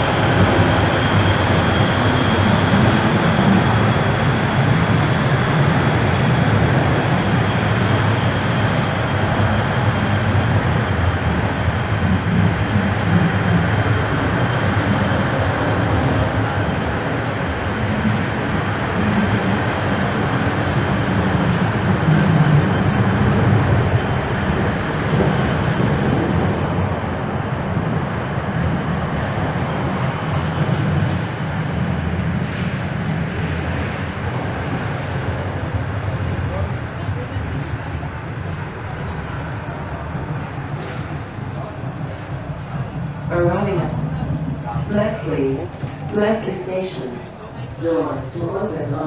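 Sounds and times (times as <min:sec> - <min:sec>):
train wheels rumbling and rattling: 0:00.0 - 0:49.0.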